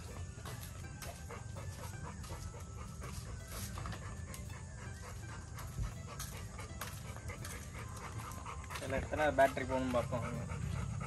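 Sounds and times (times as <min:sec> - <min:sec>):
puppy panting: 0:00.0 - 0:11.0.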